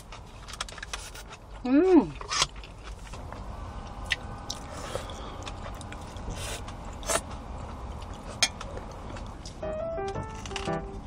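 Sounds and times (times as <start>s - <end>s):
person chewing and biting wrap: 0.0s - 9.6s.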